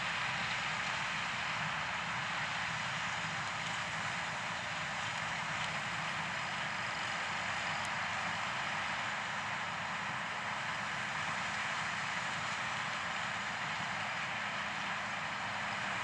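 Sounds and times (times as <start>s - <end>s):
combine harvester and tractor running: 0.0s - 16.0s.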